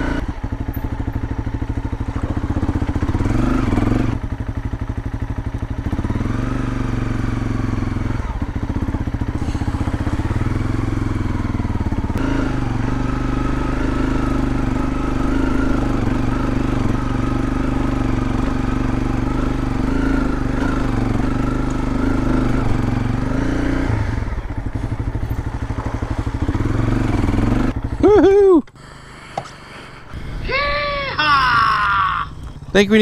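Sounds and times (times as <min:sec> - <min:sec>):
dirt bike engine running: 0:00.0 - 0:31.7, 0:32.4 - 0:33.0.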